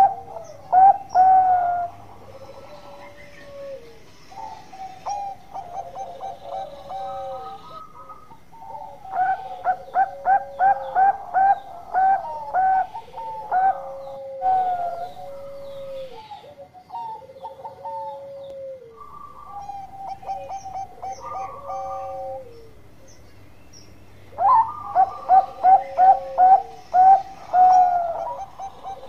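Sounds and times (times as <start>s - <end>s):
dove cooing: 0.0s - 23.2s, 24.3s - 29.0s.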